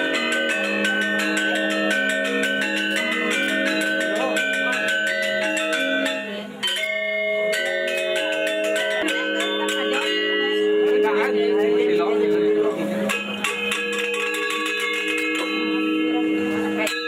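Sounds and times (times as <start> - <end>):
gamelan music: 0.0 - 17.0.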